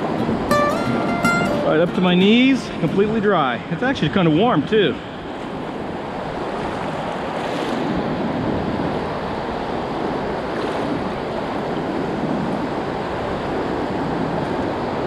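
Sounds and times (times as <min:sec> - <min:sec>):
small surf waves washing: 0:01.3 - 0:15.0.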